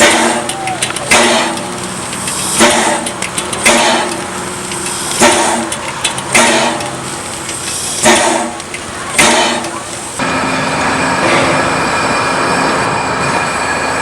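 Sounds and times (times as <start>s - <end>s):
low hum of moving train: 0.0s - 14.0s
steam locomotive chuffing: 0.0s - 14.0s.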